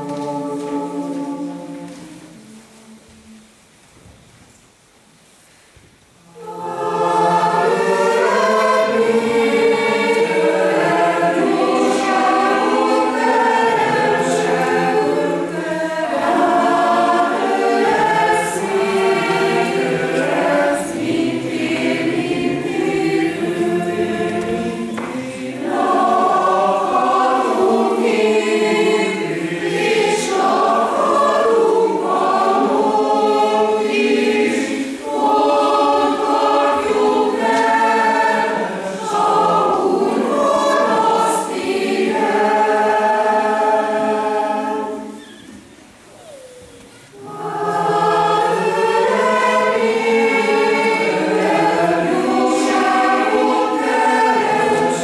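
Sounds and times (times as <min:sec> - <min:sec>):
mixed choir singing: 0:00.0 - 0:03.6, 0:06.2 - 0:55.0.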